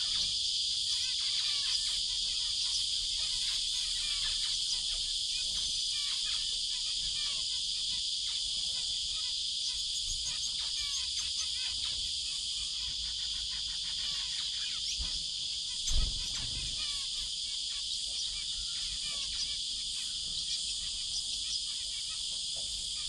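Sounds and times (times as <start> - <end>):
cicadas chorus: 0.0 - 23.0
finches chirping: 0.0 - 23.0.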